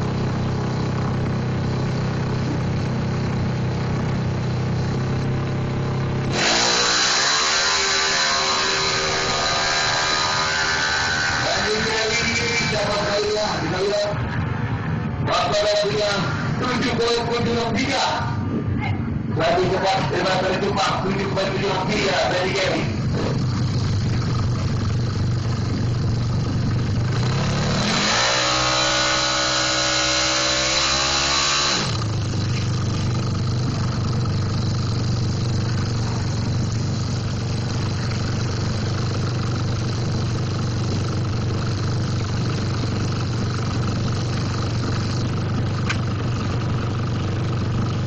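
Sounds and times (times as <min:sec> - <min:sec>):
motorcycle engine idling: 0:00.0 - 0:48.0
motorcycle engine revving: 0:00.0 - 0:48.0.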